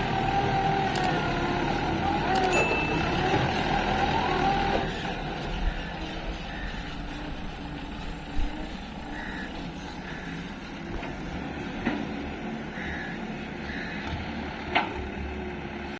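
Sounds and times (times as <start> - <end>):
diesel machinery engine running: 0.0 - 15.9.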